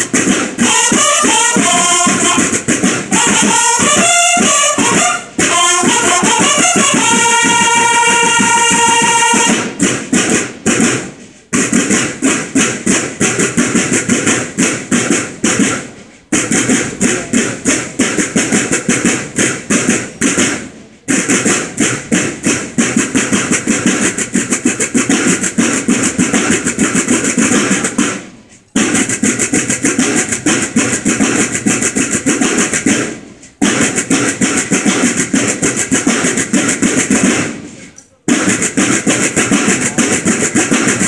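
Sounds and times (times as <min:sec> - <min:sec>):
snare drums playing fast cadence: 0:00.0 - 0:41.0.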